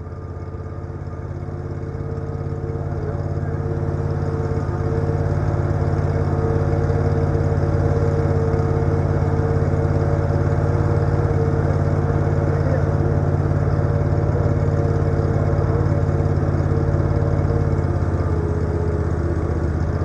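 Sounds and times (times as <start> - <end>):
large engine running: 0.0 - 20.0.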